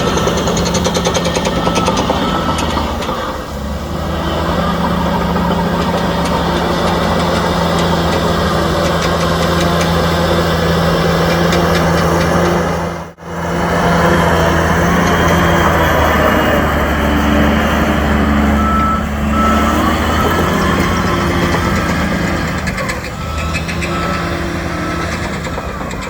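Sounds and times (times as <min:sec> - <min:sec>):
heavy diesel engine humming: 0:00.0 - 0:26.0.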